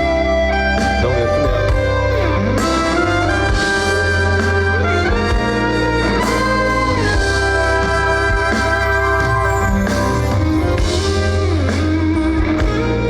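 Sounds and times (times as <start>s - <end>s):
bass: 0.0s - 13.0s
drums: 0.0s - 13.0s
lead melody with pitch bends: 0.0s - 13.0s.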